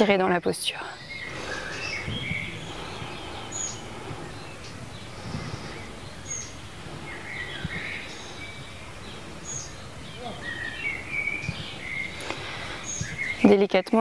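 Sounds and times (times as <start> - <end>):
birds chirping: 0.0 - 14.0
low outdoor background noise: 0.0 - 14.0.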